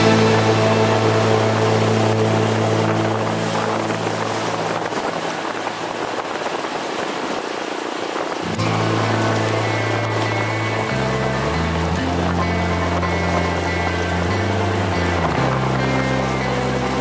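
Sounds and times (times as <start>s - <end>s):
motorcycle engine drone: 0.0s - 6.8s, 8.4s - 17.0s
road noise: 0.0s - 17.0s
wind rushing over microphone: 0.0s - 17.0s.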